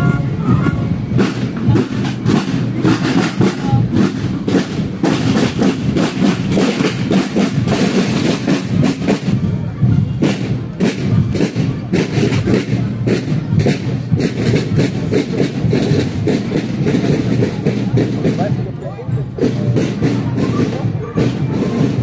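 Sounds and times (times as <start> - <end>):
marching drums beating: 0.0 - 22.0.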